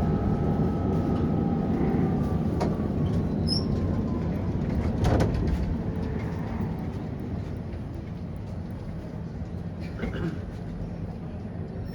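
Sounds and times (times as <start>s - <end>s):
tram interior rumble: 0.0s - 11.9s.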